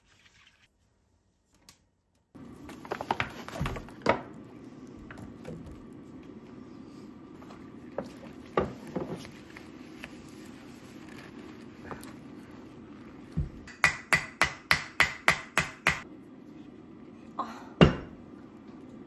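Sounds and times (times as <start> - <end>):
steady background hum: 1.2 - 19.0.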